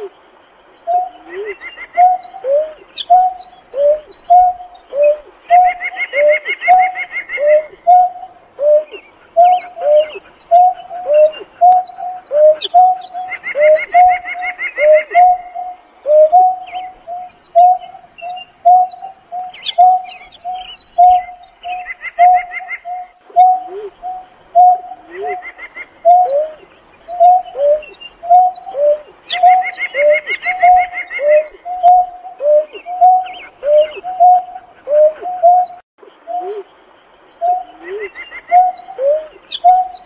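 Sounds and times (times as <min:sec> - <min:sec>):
bird low hooting coos: 0:00.8 - 0:36.8, 0:37.4 - 0:40.0.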